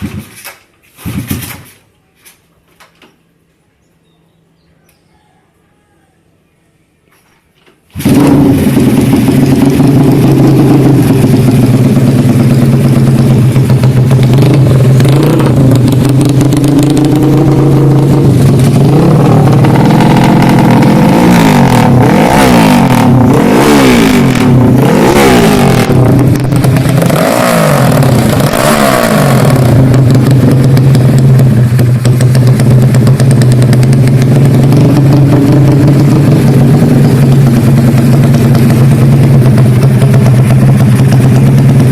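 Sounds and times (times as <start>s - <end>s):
motorcycle engine idling and revving: 0.0s - 1.7s, 7.9s - 41.9s.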